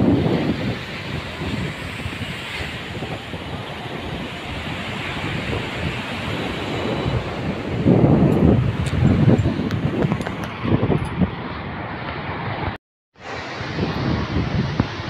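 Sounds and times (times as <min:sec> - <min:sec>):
sea waves washing onto shore: 0:00.0 - 0:15.0
wind across microphone: 0:00.0 - 0:15.0.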